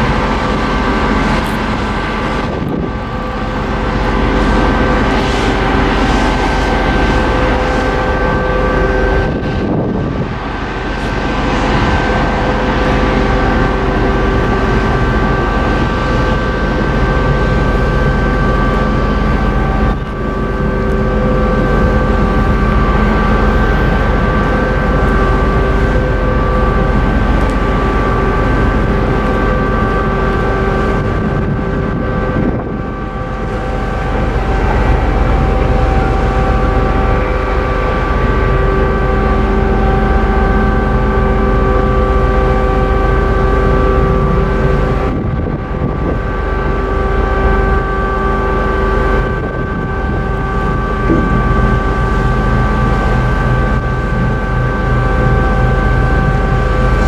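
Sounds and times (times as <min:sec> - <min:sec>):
ship engines droning: 0:00.0 - 0:57.0.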